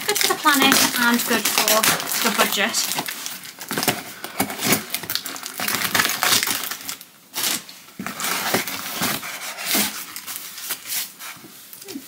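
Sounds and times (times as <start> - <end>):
tape and cardboard ripping: 0.0 - 11.4
packing paper crinkling: 0.0 - 11.8.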